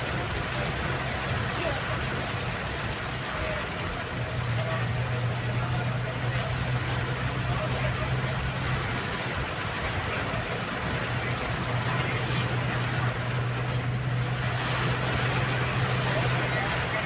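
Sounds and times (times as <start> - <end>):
heavy rain on a car: 0.0 - 17.0
low engine hum: 0.0 - 17.0
tyres on a wet road: 0.0 - 17.0.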